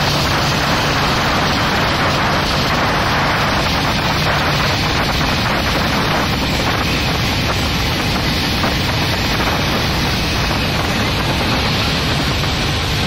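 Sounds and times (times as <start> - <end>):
ferry engine and water rushing: 0.0 - 13.0
wind on microphone: 0.0 - 13.0.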